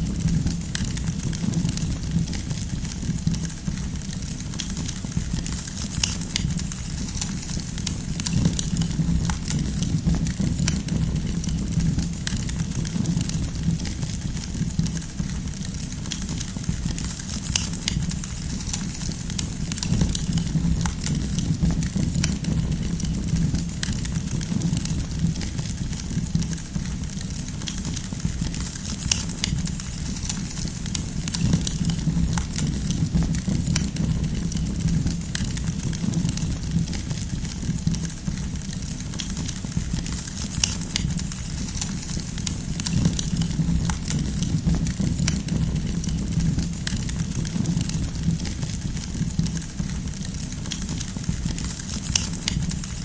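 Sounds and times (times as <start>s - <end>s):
campfire crackling and popping: 0.0s - 53.0s
low roar of flames: 0.0s - 53.0s.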